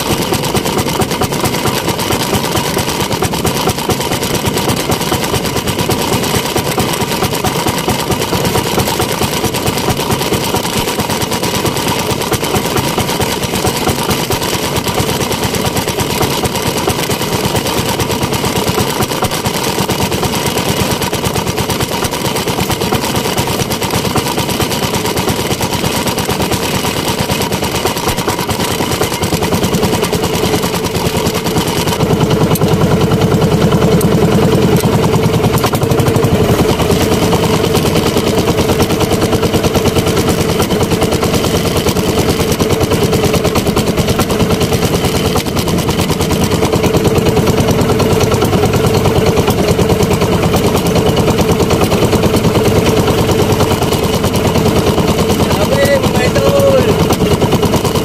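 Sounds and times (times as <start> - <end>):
small boat engine chatter: 0.0 - 58.0.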